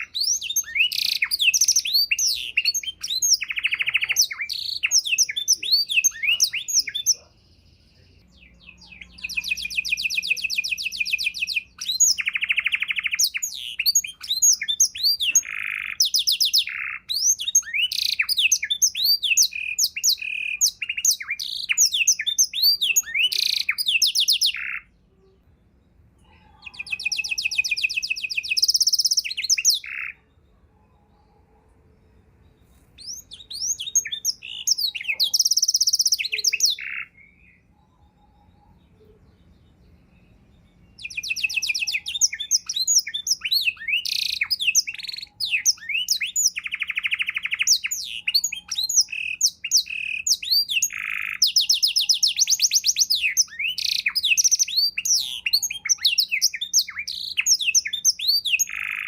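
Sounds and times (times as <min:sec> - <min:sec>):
canary singing trills and chirps: 0:00.0 - 0:59.0.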